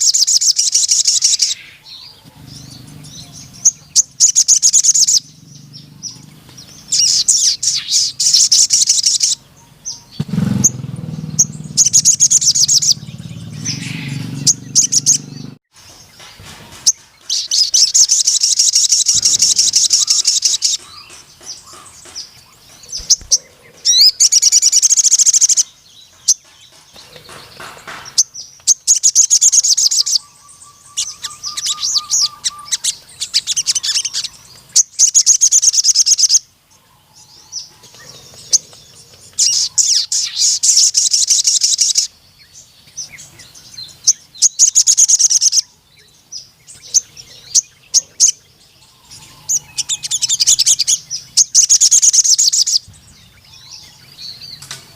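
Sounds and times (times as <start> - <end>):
bird trilling: 0.0 - 15.6, 16.7 - 36.5, 37.2 - 42.2, 43.0 - 45.8, 46.7 - 54.7
bird chirps: 0.0 - 54.9.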